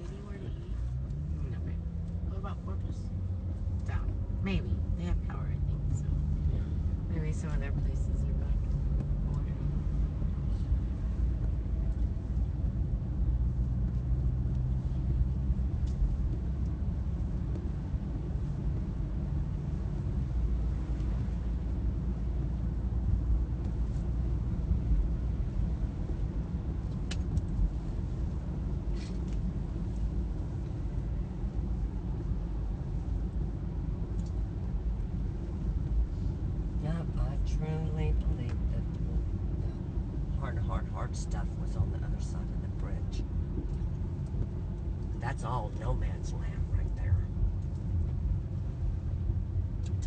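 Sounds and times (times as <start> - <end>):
car road noise rumble: 0.0 - 50.0.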